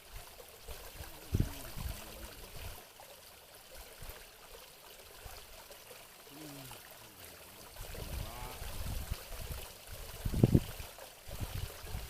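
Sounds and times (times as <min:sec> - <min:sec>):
running water trickling: 0:00.0 - 0:12.0.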